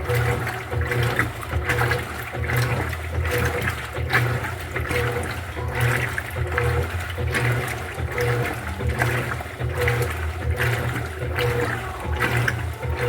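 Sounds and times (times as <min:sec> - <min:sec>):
washing machine motor hum: 0:00.0 - 0:13.0
water sloshing: 0:00.0 - 0:13.0.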